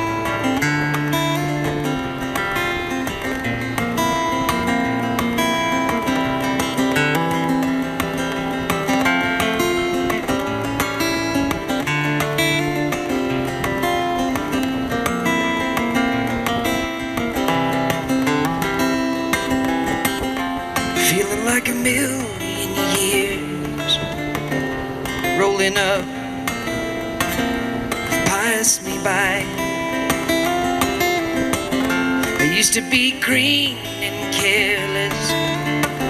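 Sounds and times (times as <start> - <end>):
acoustic guitar strumming chords: 0.0 - 36.0.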